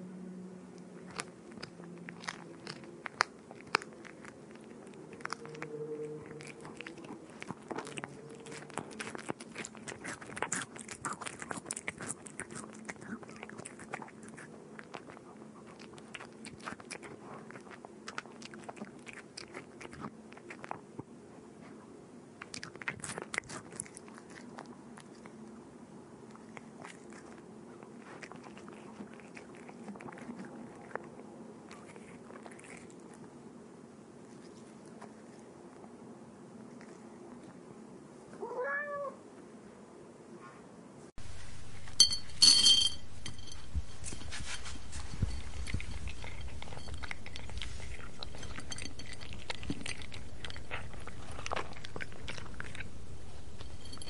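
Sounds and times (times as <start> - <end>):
cat crunching food: 0.7 - 21.8, 22.4 - 25.6, 26.2 - 33.6, 34.2 - 36.0, 36.6 - 37.6, 41.2 - 54.0.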